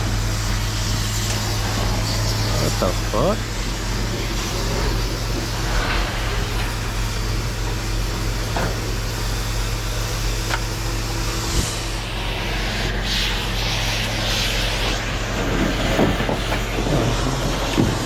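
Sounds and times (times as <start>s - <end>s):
road and wind noise: 0.0s - 18.0s
truck engine hum: 0.0s - 18.0s.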